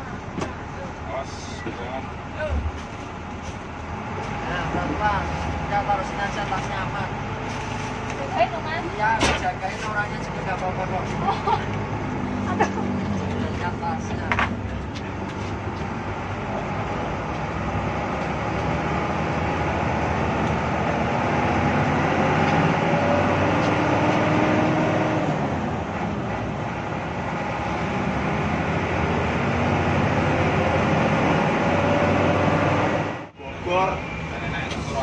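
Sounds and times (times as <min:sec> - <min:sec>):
bus diesel engine accelerating: 0:00.0 - 0:35.0.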